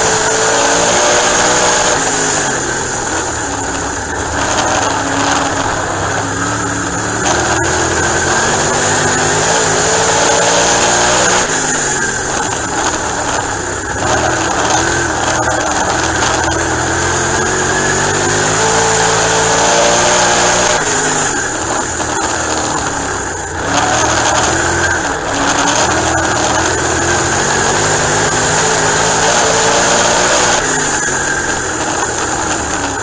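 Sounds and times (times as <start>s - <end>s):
race car engine revving: 0.0s - 33.0s.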